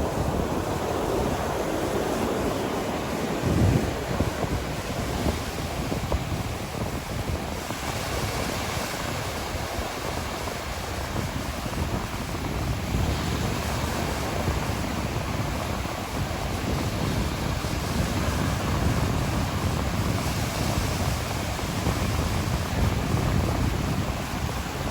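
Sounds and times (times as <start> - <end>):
sea waves washing on shore: 0.0 - 24.9
wind: 0.0 - 24.9.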